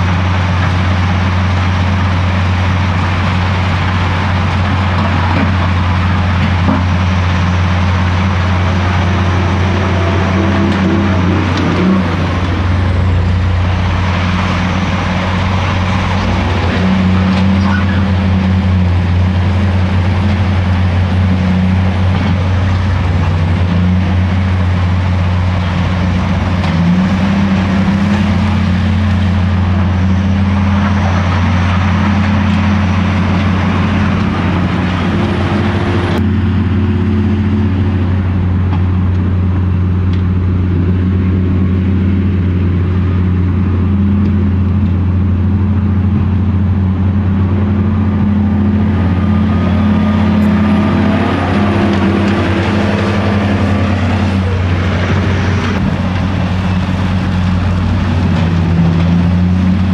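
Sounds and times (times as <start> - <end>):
wheel loader diesel engine revving: 0.0 - 59.9.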